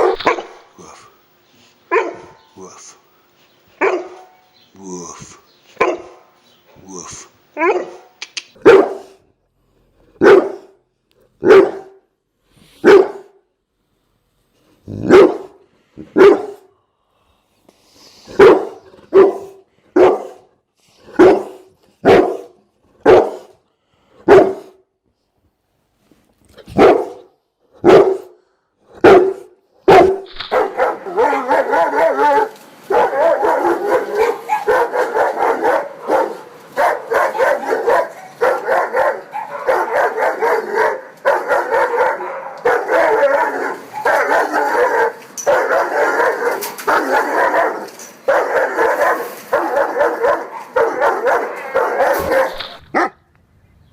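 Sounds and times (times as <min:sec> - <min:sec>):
dog barking deeply: 0:00.0 - 0:01.2, 0:01.9 - 0:03.1, 0:03.8 - 0:09.2, 0:10.2 - 0:10.8, 0:11.4 - 0:12.1, 0:12.8 - 0:13.4, 0:14.9 - 0:16.7, 0:18.3 - 0:20.5, 0:21.1 - 0:23.6, 0:24.2 - 0:24.8, 0:26.7 - 0:53.2.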